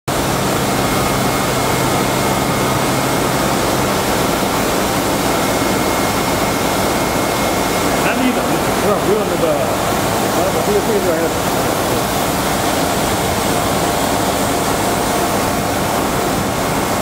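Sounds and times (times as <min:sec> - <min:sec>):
high whine: 0:00.1 - 0:17.0
industrial machinery running: 0:00.1 - 0:17.0.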